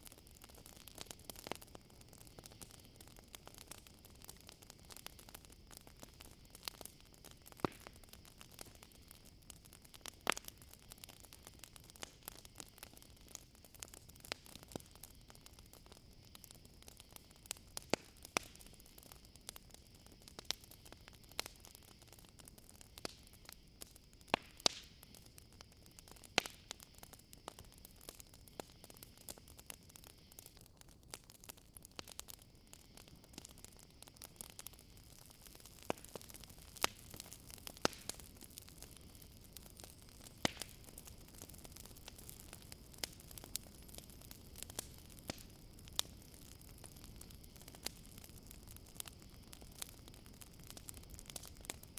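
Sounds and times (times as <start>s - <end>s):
campfire crackling and popping: 0.0s - 51.9s
crickets trilling: 0.0s - 51.9s.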